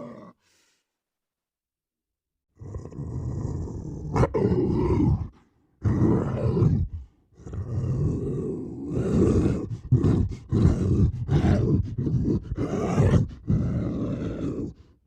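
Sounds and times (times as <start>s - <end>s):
monster growling: 0.0s - 0.4s, 2.6s - 14.8s.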